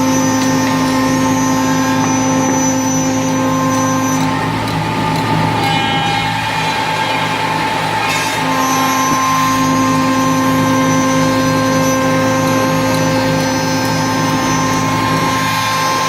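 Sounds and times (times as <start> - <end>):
cnc router machine whine: 0.0 - 16.0.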